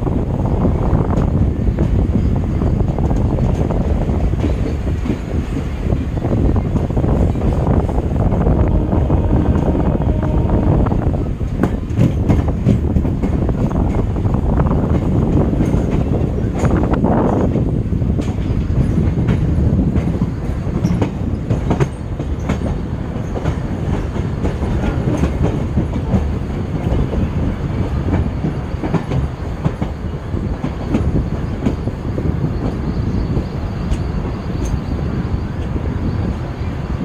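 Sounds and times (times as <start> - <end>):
train wheels rumbling on track: 0.0 - 37.0
clacks over rail joints: 1.1 - 32.9.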